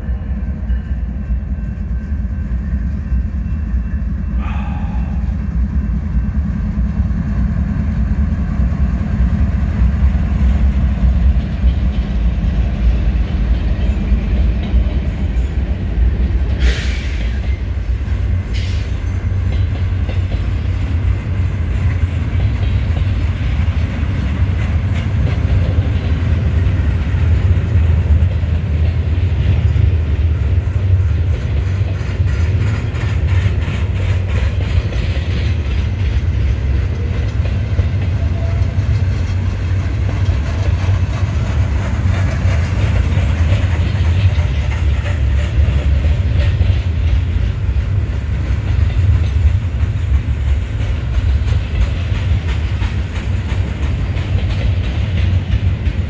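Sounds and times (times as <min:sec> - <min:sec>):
diesel locomotives rumbling: 0:00.0 - 0:56.0
train wheels rumbling on rail: 0:00.0 - 0:56.0.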